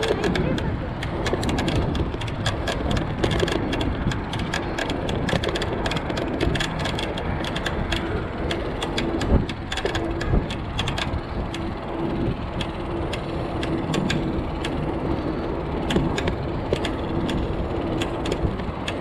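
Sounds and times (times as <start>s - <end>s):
bike clicks and rattles: 0.0s - 19.0s
faint motor whine: 0.0s - 19.0s
wind and tyre noise: 0.0s - 19.0s.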